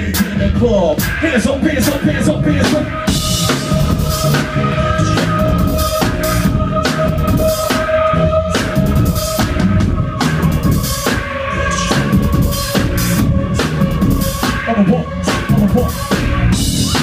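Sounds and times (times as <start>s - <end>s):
bass line: 0.0s - 17.0s
drum kit: 0.0s - 17.0s.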